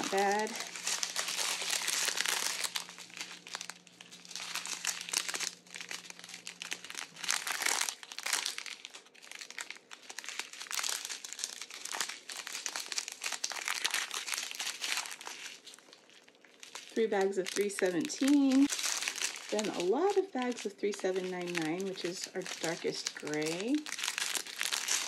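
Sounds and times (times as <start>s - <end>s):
plastic packets crinkling: 0.0s - 25.0s.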